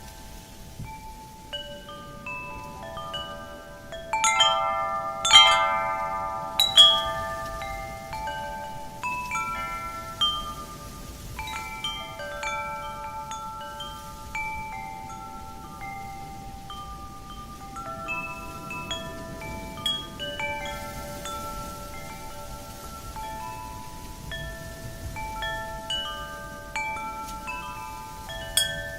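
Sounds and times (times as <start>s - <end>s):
wind chime ringing: 0.0s - 28.9s.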